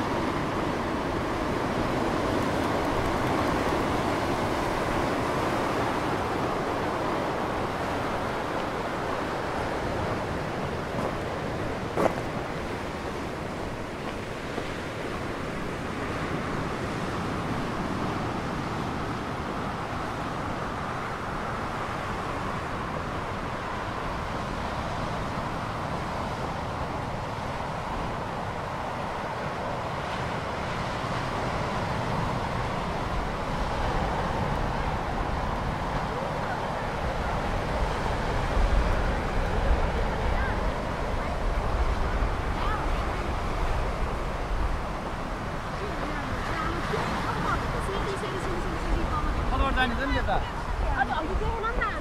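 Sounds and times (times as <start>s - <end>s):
surf washing over rocks: 0.0s - 52.0s
wind on microphone: 0.0s - 52.0s.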